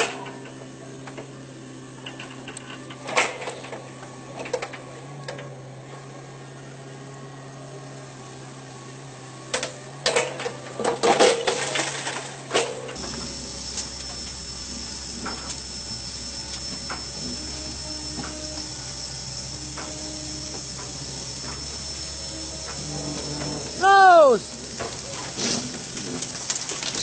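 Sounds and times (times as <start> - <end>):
machine engine running: 0.0 - 27.0.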